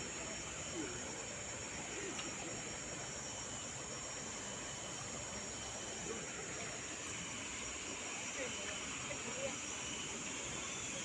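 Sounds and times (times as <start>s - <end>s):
forest noise wash: 0.0s - 11.0s
high-pitched insect drone: 0.0s - 11.0s.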